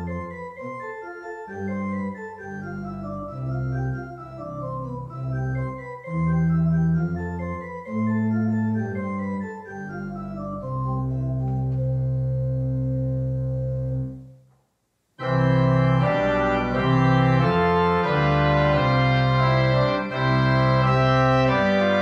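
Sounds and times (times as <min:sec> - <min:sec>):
church organ playing chords: 0:00.0 - 0:14.4, 0:15.2 - 0:22.0.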